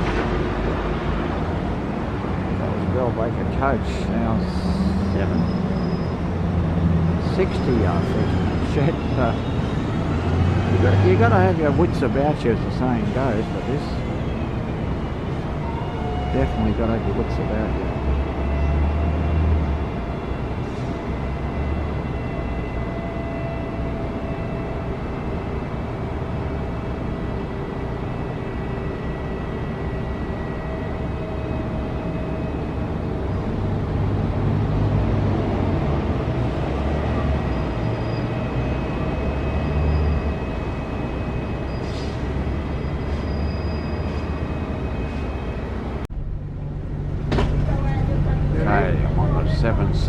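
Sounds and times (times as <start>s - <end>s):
bus engine rumbling: 0.0s - 50.0s.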